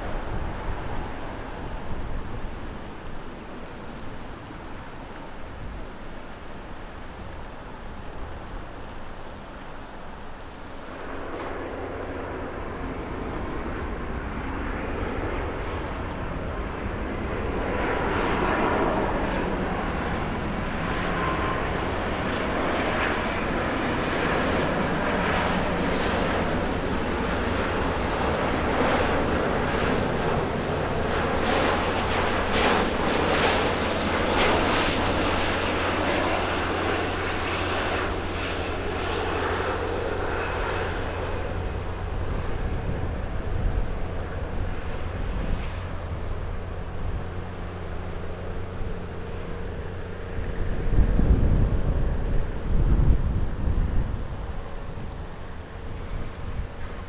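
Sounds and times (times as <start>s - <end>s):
jet engines on approach: 0.0s - 57.0s.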